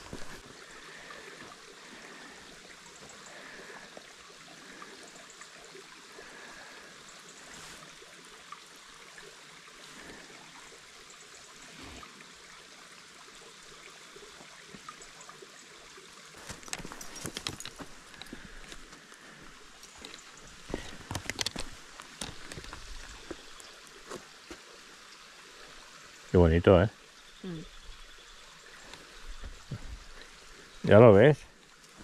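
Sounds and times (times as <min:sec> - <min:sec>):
water trickling: 0:00.0 - 0:32.0.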